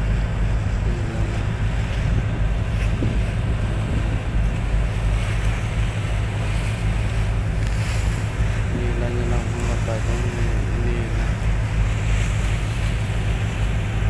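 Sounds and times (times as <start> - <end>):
sea waves: 0.0 - 14.0
steady low rumble: 0.0 - 14.0
wind buffeting microphone: 0.0 - 14.0.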